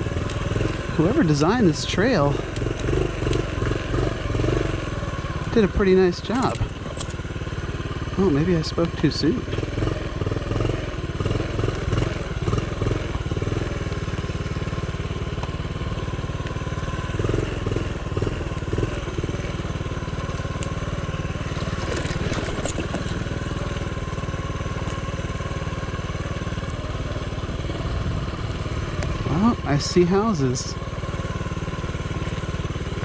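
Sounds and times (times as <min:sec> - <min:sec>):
small motorcycle engine running: 0:00.0 - 0:33.0.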